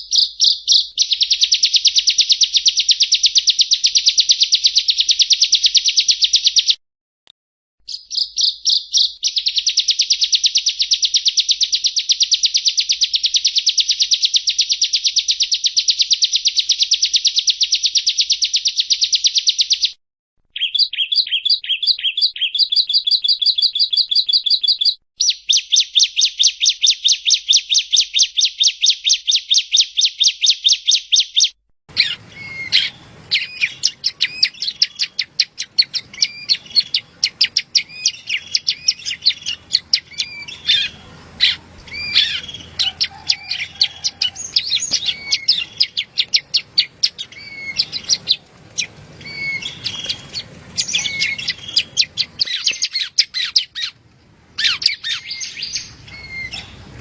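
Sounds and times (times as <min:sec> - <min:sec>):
bird chattering song: 0:00.0 - 0:06.8, 0:07.9 - 0:54.0, 0:54.6 - 0:56.9
bird rapid trill: 0:00.0 - 0:06.8, 0:07.9 - 0:54.0, 0:54.6 - 0:57.0.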